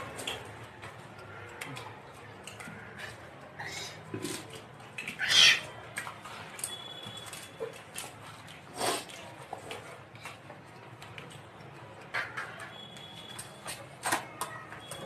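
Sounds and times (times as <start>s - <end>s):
crunchy chewing of puffed rice: 0.0s - 15.0s.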